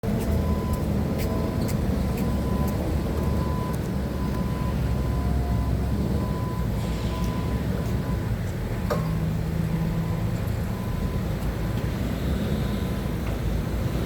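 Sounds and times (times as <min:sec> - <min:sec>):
forklift engine rumbling: 0:00.0 - 0:14.0.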